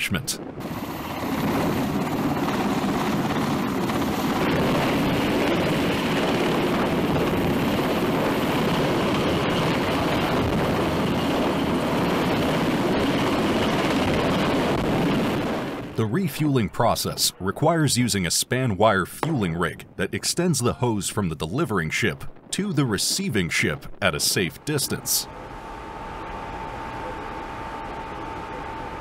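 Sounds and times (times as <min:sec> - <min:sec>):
helicopter hovering: 0:00.2 - 0:29.0.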